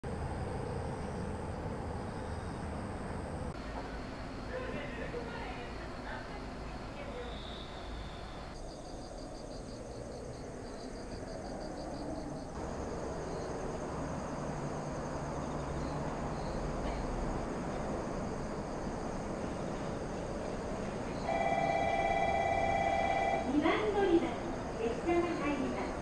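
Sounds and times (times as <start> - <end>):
insects chirping trill: 0.1 - 26.0
low background noise: 0.1 - 26.0.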